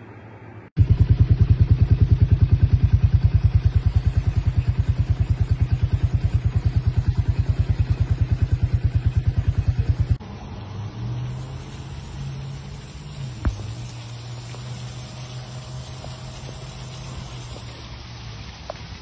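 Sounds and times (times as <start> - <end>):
engine chugging: 0.8 - 19.0.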